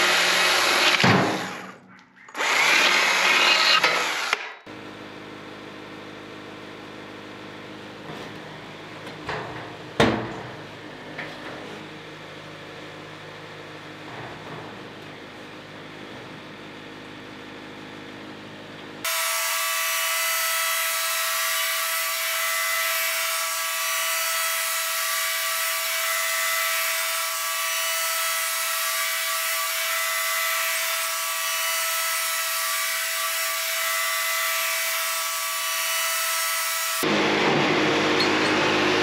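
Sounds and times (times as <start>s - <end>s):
band sawmill cutting wood: 0.0s - 9.0s, 16.6s - 39.0s.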